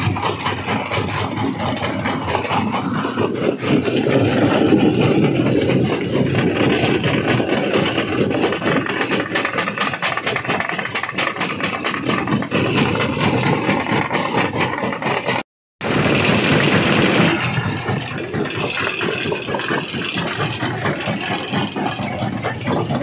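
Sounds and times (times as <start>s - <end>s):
stone crusher running: 0.0s - 23.0s.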